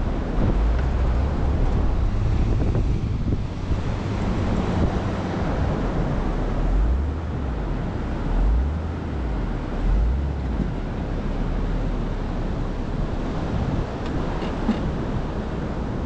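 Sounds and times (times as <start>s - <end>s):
wind buffeting microphone: 0.0s - 11.8s, 12.6s - 16.0s
ocean surf: 0.0s - 16.0s
vehicle engines running: 0.0s - 16.0s.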